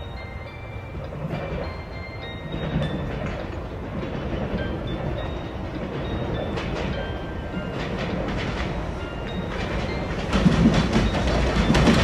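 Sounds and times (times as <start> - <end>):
train wheels clattering: 0.0 - 12.0.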